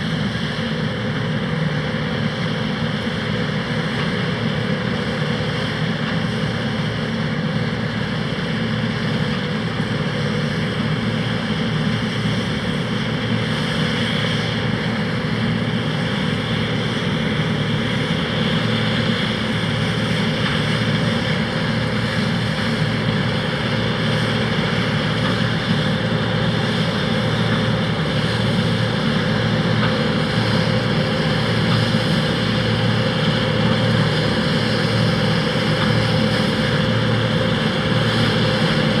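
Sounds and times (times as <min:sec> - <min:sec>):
combine harvester droning: 0:00.0 - 0:39.0.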